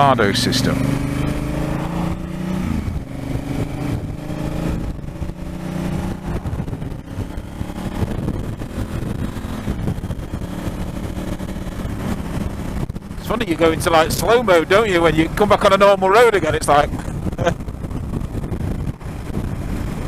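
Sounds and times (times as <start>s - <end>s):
motorcycle engine running: 0.0s - 20.0s
wind rumble: 0.0s - 20.0s.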